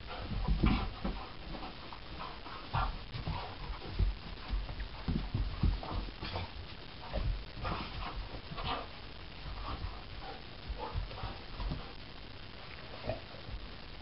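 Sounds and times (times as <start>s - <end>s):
dogs panting: 0.0s - 12.0s
dogs scuffling with thumps: 0.0s - 12.0s.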